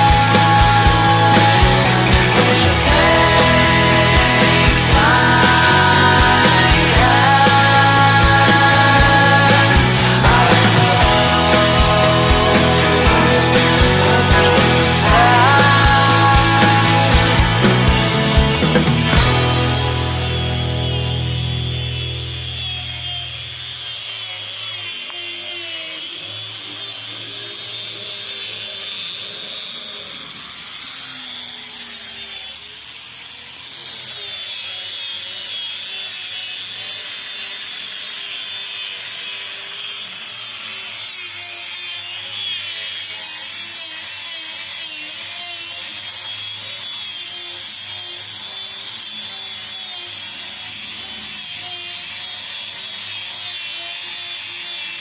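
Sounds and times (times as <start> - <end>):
electric power tool whining: 0.0 - 55.0.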